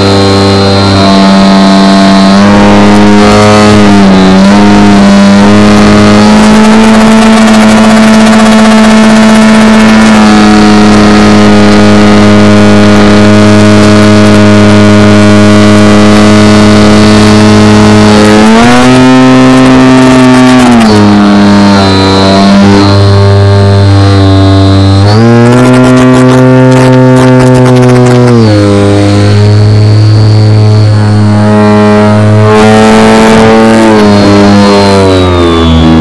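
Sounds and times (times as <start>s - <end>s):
model plane motor and propeller: 0.0s - 36.0s.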